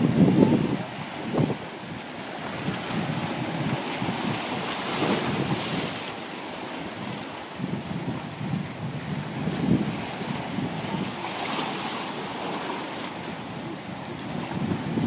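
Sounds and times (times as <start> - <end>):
wind buffeting microphone: 0.0 - 6.1, 6.7 - 15.0
surf breaking over rocks: 0.0 - 15.0.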